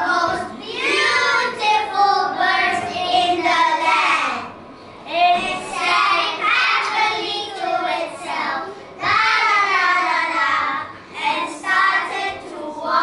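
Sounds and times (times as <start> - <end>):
children singing in unison: 0.0 - 4.0, 5.2 - 13.0.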